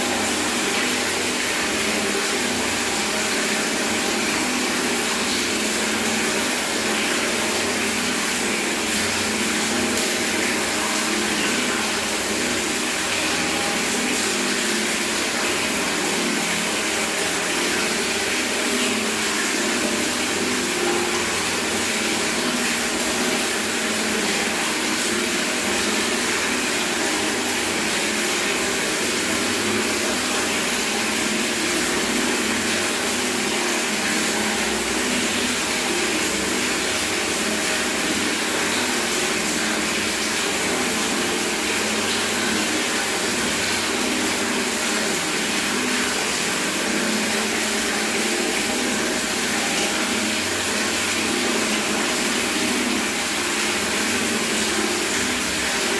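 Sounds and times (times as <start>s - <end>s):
tap water running into bucket: 0.0s - 55.9s.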